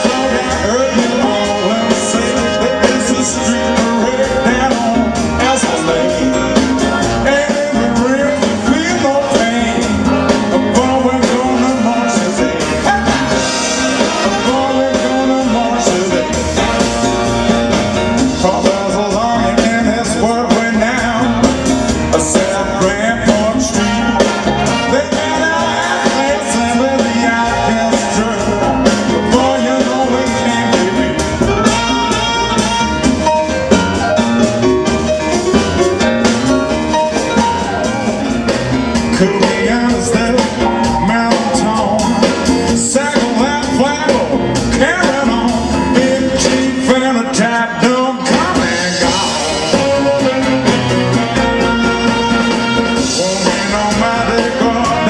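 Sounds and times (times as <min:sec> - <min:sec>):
piano: 0:00.0 - 0:55.0
saxophones and brass: 0:00.0 - 0:55.0
steady drum beat: 0:00.0 - 0:55.0.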